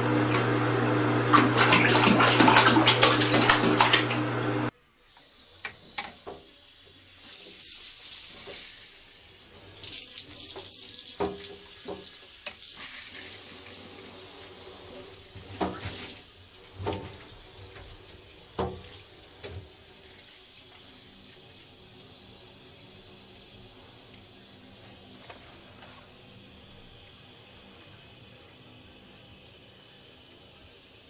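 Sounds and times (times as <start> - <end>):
tap water running into bathtub: 0.0 - 4.4, 5.1 - 31.0.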